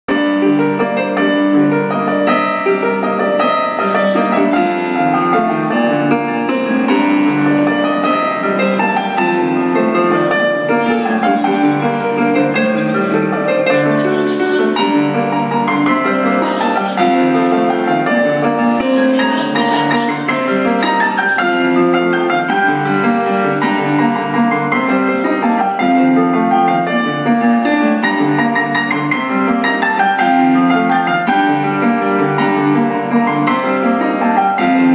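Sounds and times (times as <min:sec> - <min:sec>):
digital piano piece: 0:00.1 - 0:34.9.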